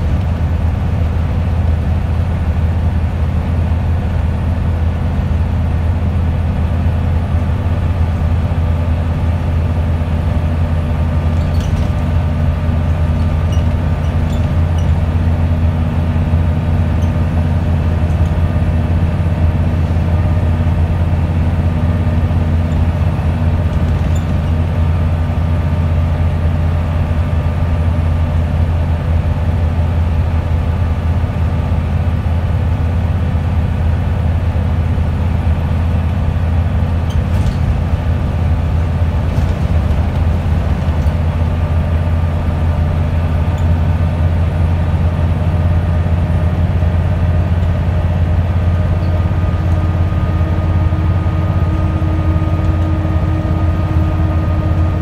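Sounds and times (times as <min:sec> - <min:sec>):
bus engine low drone: 0:00.0 - 0:55.0
road and tyre noise: 0:00.0 - 0:55.0.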